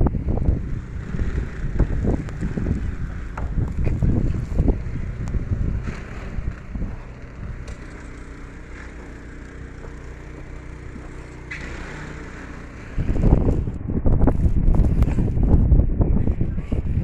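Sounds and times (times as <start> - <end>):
vehicle engine humming: 0.0 - 15.7
wind buffeting microphone: 0.0 - 17.0.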